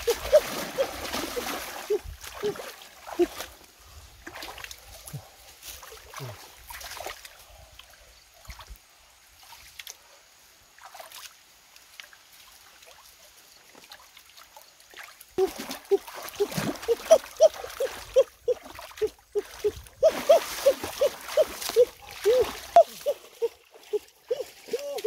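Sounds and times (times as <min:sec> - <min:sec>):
hands splashing stream water: 0:00.0 - 0:08.8, 0:10.7 - 0:25.0.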